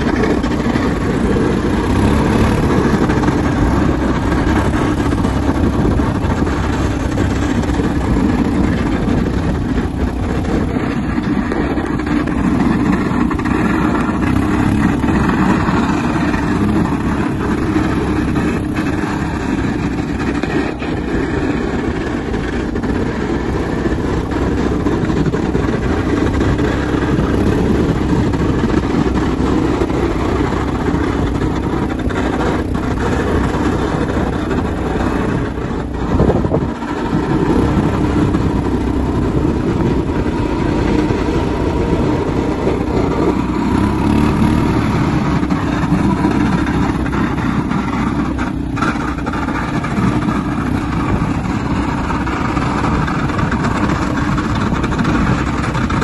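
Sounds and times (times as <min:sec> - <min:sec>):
rumbling road noise: 0:00.0 - 0:56.0
vehicle engine running: 0:00.0 - 0:56.0.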